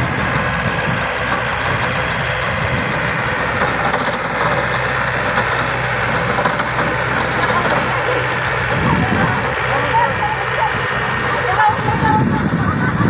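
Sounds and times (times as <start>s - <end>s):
rotary tiller working soil: 0.0s - 13.0s
tractor diesel engine running: 0.0s - 13.0s.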